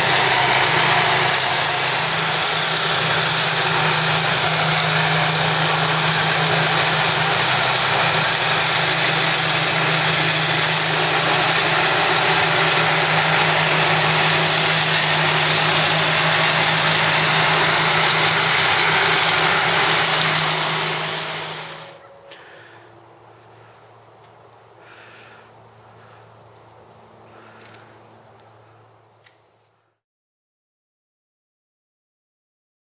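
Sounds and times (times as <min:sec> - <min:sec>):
flail mower running: 0:00.0 - 0:29.2.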